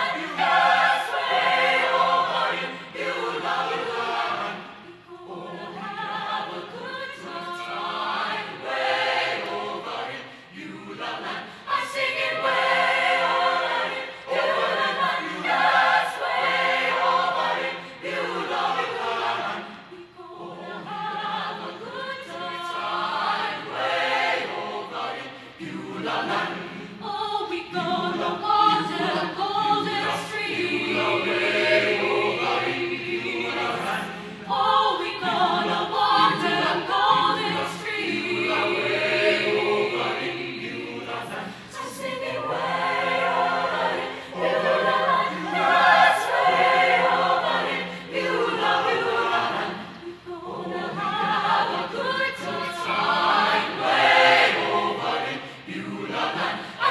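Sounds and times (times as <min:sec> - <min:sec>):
choir singing: 0:00.0 - 0:56.9.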